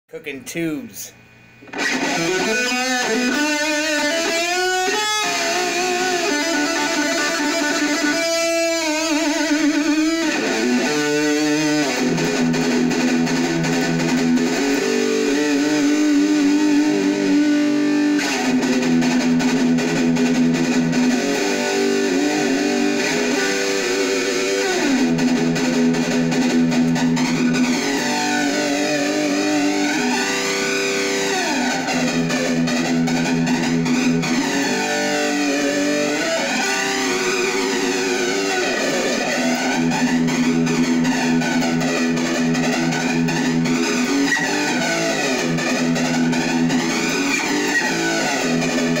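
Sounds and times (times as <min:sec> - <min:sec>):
distorted electric guitar: 0:00.1 - 0:49.0.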